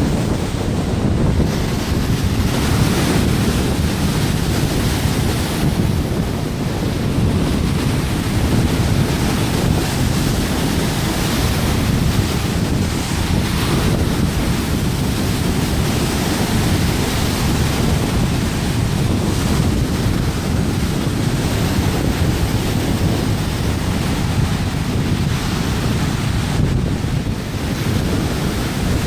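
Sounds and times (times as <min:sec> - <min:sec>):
waves washing on lake: 0:00.0 - 0:29.0
wind buffeting microphone: 0:00.0 - 0:29.0.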